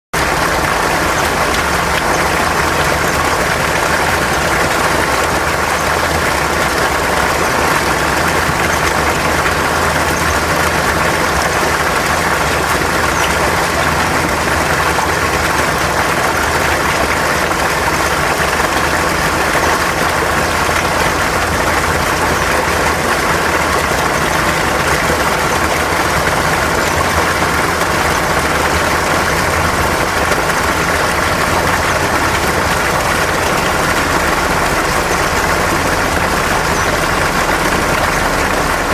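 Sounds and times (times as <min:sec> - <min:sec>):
stream rushing over rocks: 0:00.2 - 0:38.9.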